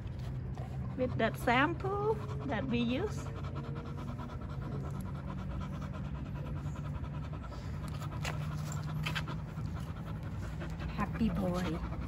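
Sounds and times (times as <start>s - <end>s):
dog panting rapidly: 0.0s - 12.0s
steady low hum: 0.0s - 12.0s.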